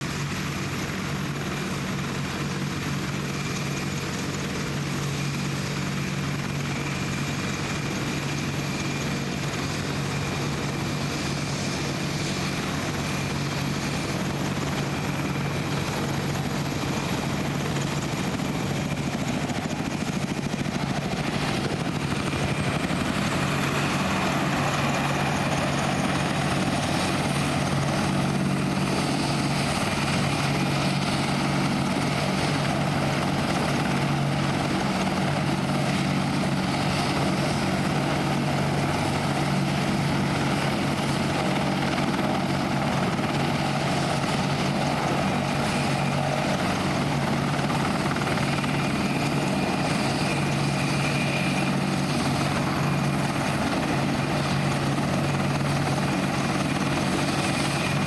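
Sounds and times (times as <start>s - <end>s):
helicopter rotors droning: 0.0s - 58.0s.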